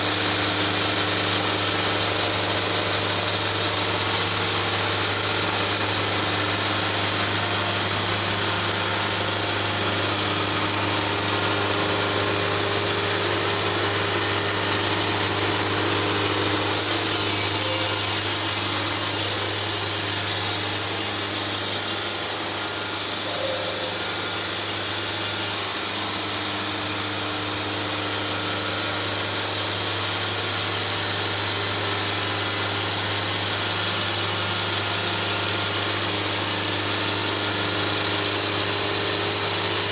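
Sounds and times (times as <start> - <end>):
saw blade hissing through log: 0.0 - 39.9
sawmill engine hum: 0.0 - 39.9.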